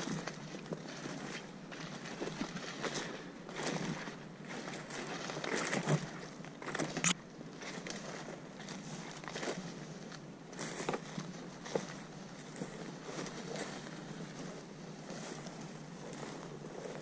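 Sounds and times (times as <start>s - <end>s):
twigs crackling and snapping: 0.0s - 13.9s
footsteps through brush: 0.0s - 17.0s.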